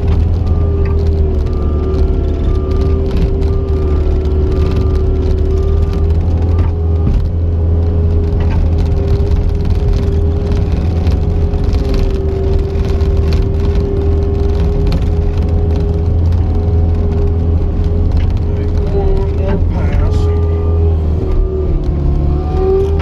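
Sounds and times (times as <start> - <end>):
diesel engine running under load: 0.0 - 23.0
steady engine whine: 0.0 - 23.0.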